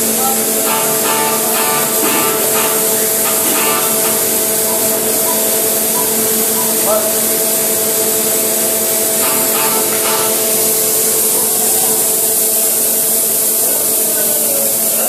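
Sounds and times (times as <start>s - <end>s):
machine hum: 0.0s - 14.8s
loud steady hiss: 0.0s - 15.0s.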